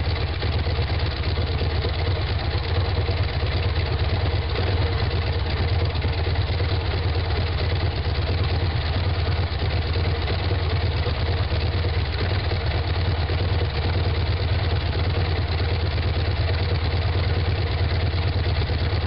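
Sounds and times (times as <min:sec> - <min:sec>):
radial engine idling: 0:00.0 - 0:19.0.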